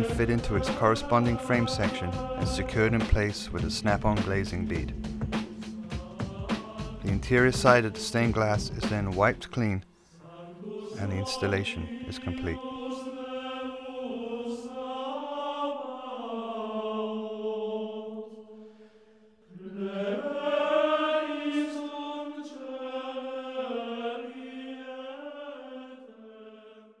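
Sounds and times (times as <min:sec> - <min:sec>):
slow sung chant: 0:00.0 - 0:27.0.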